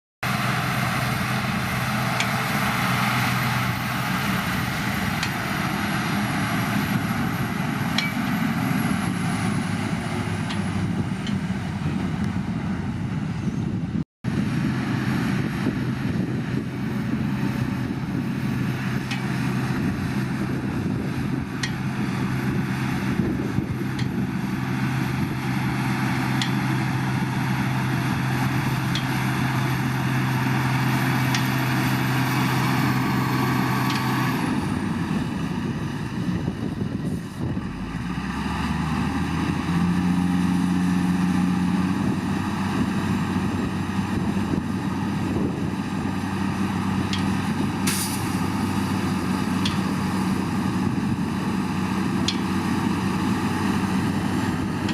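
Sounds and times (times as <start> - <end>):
diesel engine running under load: 0.2 - 54.9.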